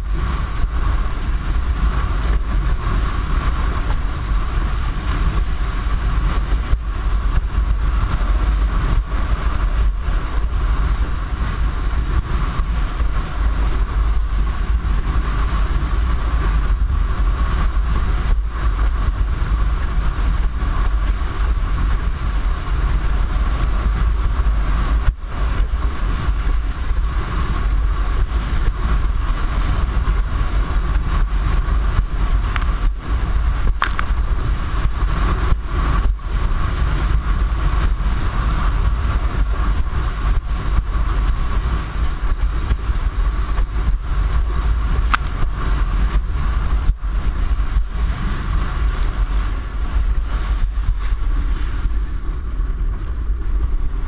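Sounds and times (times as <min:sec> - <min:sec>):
steady hum: 0:00.0 - 0:54.0
strong wind on microphone: 0:00.0 - 0:54.0.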